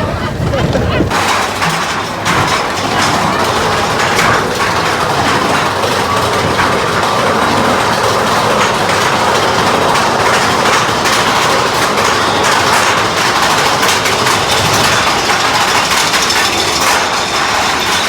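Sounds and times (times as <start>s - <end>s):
roller coaster cars rattling: 0.0s - 18.0s.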